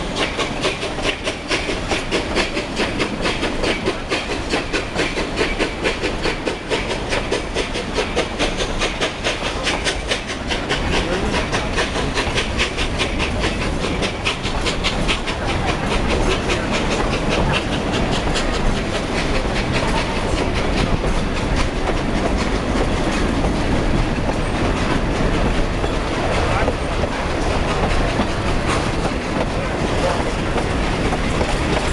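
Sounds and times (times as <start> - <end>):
steam train running: 0.0 - 31.9.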